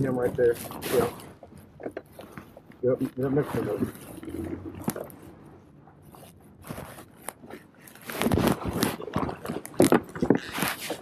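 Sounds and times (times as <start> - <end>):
clothing rubbing camera: 0.0 - 11.0.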